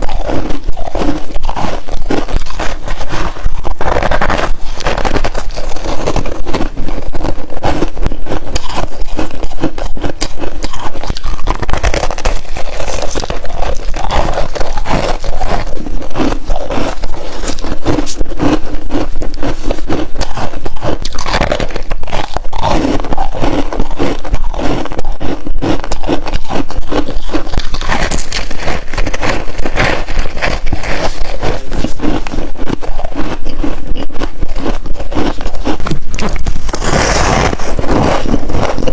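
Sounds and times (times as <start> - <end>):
frost being chewed: 0.0 - 38.9.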